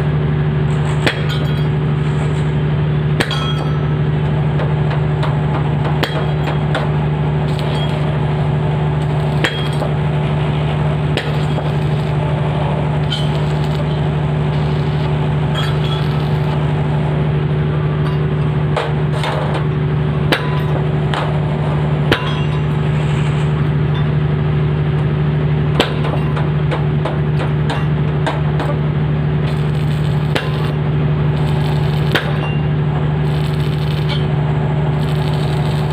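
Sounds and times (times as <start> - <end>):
low machine hum: 0.0 - 35.9.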